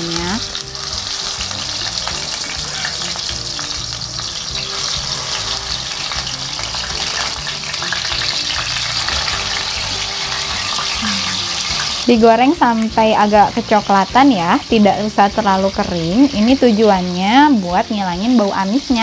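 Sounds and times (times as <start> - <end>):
fish sizzling in a frying pan: 0.0 - 19.0.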